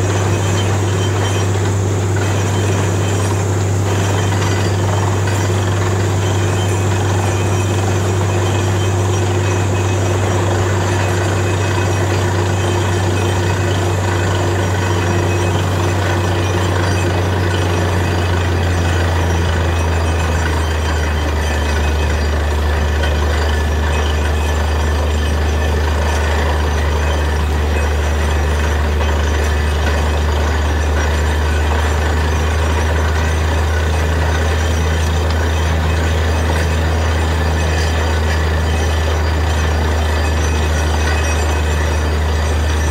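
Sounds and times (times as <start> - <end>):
heavy engine drone: 0.0 - 42.9.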